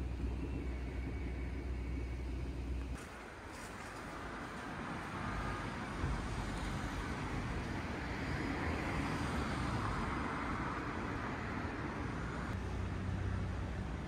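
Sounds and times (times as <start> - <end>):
city traffic: 0.0 - 14.0.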